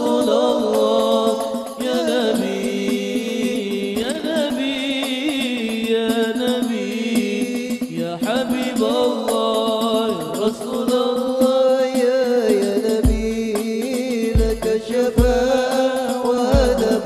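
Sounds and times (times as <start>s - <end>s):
light percussion: 0.0s - 17.0s
man singing melismatic line: 0.0s - 17.0s.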